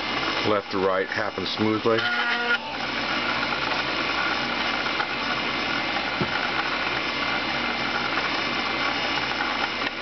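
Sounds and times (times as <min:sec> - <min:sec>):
coil winder motors whirring: 0:00.0 - 0:10.0.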